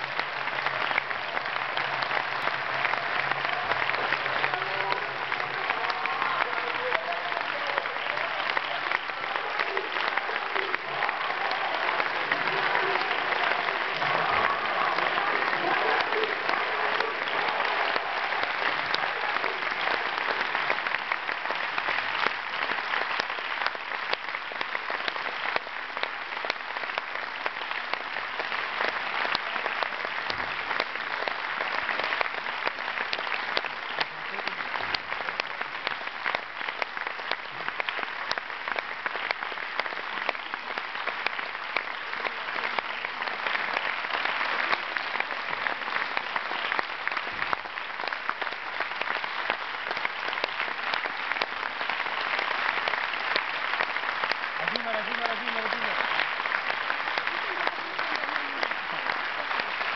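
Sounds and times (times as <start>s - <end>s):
close hand claps: 0.0s - 59.9s
large audience applauding: 0.0s - 59.9s.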